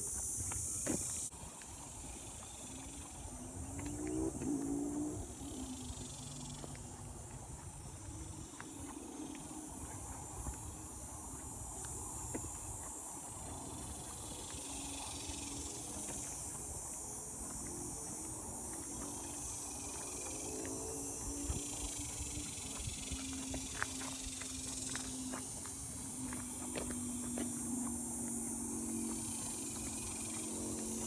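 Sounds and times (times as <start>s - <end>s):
insect chorus: 0.0s - 31.0s
footsteps on dirt trail: 0.1s - 5.3s, 5.9s - 31.0s.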